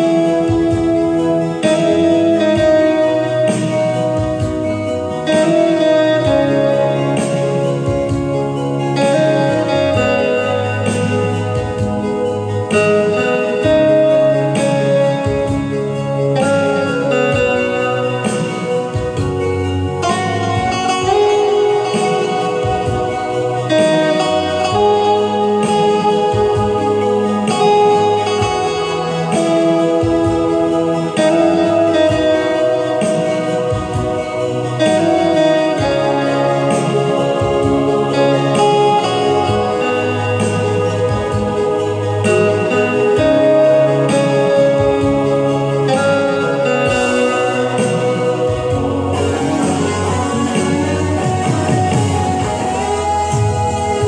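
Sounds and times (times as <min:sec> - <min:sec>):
bass line: 0:00.0 - 0:54.0
slow instrumental guitar melody: 0:00.0 - 0:54.0.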